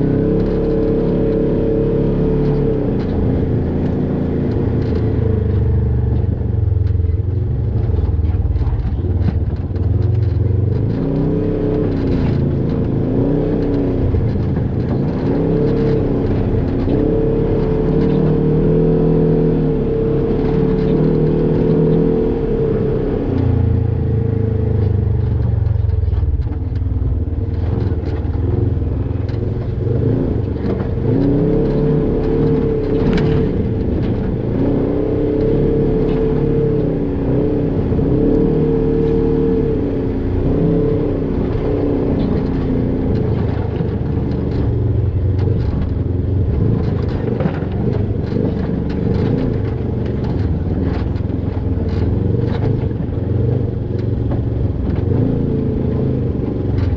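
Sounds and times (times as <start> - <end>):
engine revving: 0.0 - 56.9.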